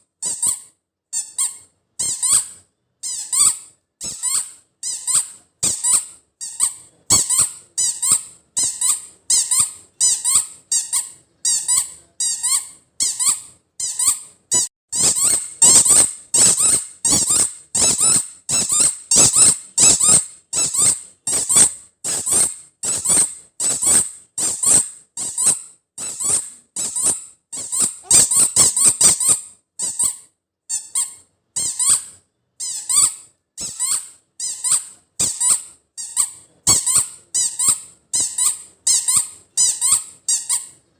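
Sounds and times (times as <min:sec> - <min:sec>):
squeaky rubber toy squeaks: 0:00.2 - 0:40.8.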